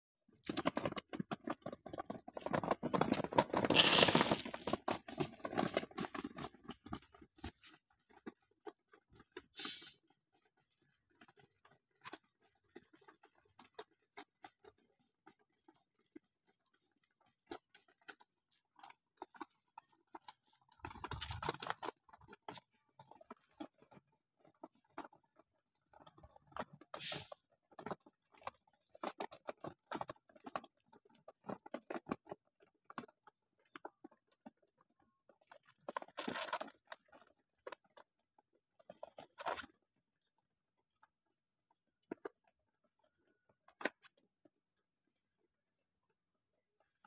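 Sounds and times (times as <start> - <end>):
pigeons pecking on plastic: 0.3 - 47.0.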